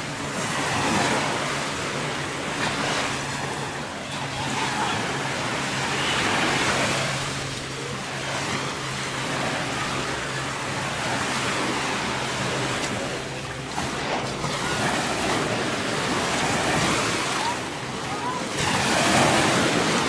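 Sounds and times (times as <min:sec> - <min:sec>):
surf breaking on beach: 0:00.0 - 0:20.0.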